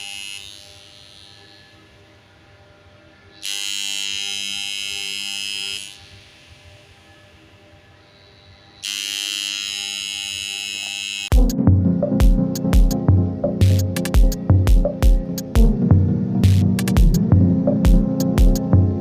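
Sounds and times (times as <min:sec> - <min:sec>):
contactor buzzing: 0:00.0 - 0:02.1, 0:03.3 - 0:06.8, 0:08.1 - 0:19.0.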